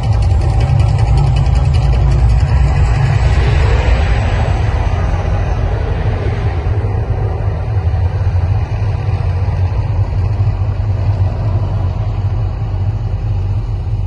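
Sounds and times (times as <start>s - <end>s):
deep eruption rumble: 0.0s - 14.0s.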